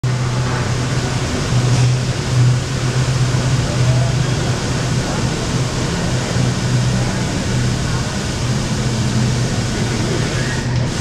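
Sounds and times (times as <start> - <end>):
fountain water rushing: 0.0 - 11.0.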